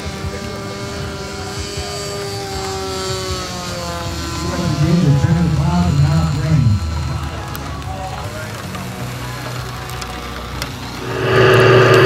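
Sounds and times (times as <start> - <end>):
model aircraft motor droning: 0.0 - 12.0.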